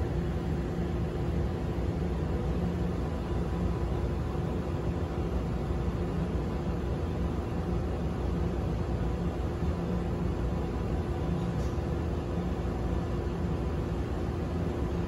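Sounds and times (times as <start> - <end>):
faint machine hum: 0.0 - 15.0.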